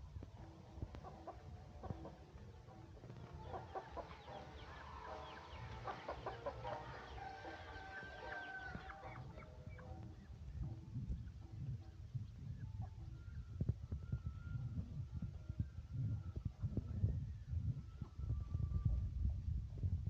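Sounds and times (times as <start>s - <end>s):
chickens clucking: 0.1s - 19.5s.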